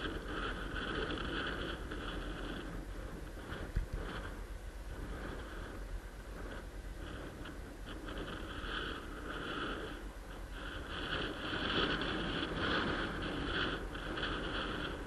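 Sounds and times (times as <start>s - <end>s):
high-pitched scooter whine: 0.0s - 15.0s
scooter wheels and wind rumble: 0.0s - 15.0s.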